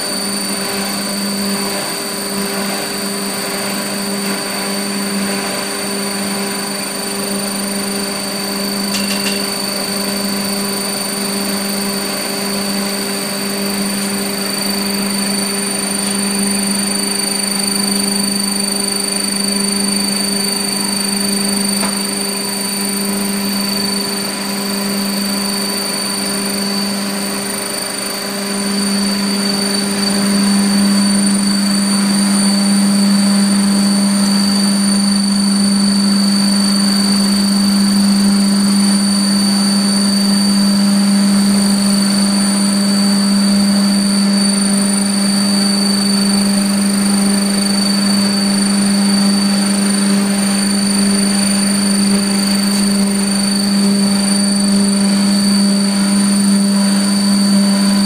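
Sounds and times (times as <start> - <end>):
hammer mill droning: 0.0 - 58.0
thin high whine: 0.0 - 58.0.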